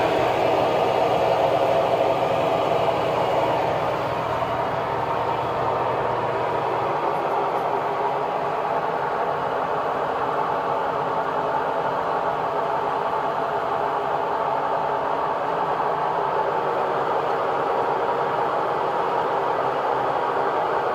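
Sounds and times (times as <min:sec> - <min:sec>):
washing machine spin cycle whirring: 0:00.0 - 0:20.9.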